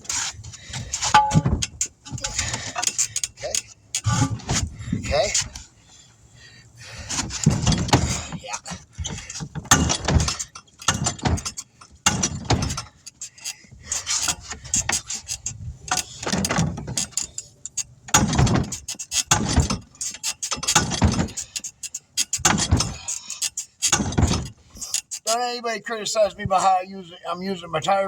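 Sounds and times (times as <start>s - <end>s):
metal tire tools clanking and scraping: 0.0s - 6.2s, 6.8s - 25.4s.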